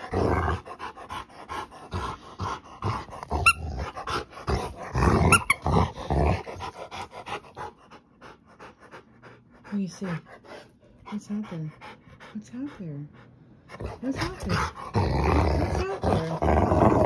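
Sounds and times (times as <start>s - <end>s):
dog panting: 0.0s - 4.9s, 5.9s - 15.0s
dog play-growling: 0.0s - 12.4s, 13.7s - 17.0s.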